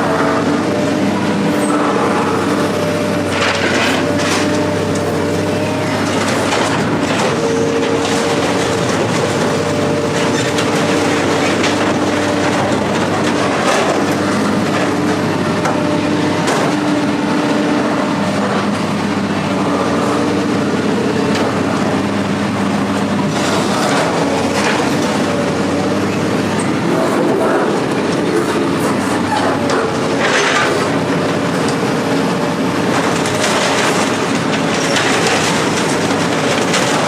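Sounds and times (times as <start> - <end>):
heavy vehicle engine running: 0.0 - 37.0.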